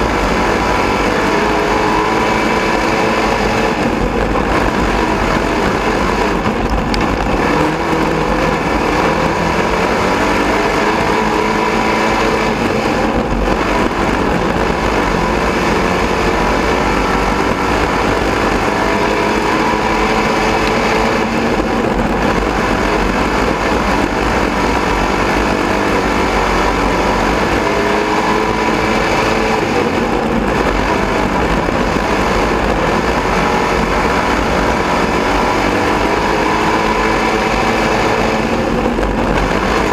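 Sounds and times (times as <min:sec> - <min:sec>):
race car engine revving: 0:00.0 - 0:39.9
steady rush of noise: 0:00.0 - 0:39.9.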